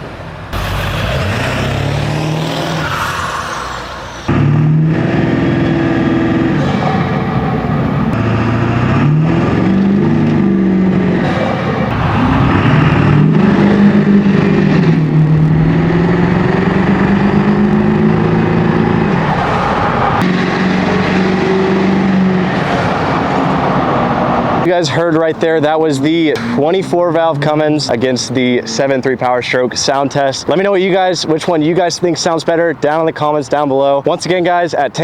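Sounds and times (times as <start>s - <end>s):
diesel engine revving: 0.0s - 31.8s.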